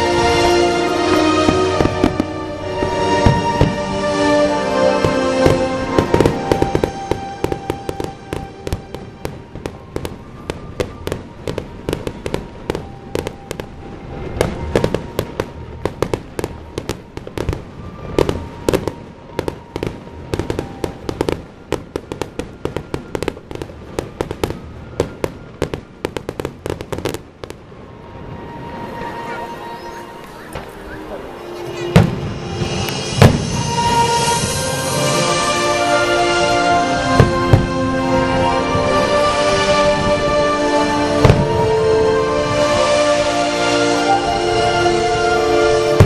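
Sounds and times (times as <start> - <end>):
background music: 0.0 - 23.2, 27.0 - 46.0
fireworks bursting: 0.0 - 46.0.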